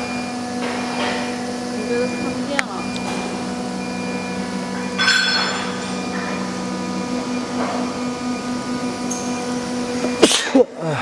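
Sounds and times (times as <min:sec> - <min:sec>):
cnc router spindle whine: 0:00.0 - 0:10.2.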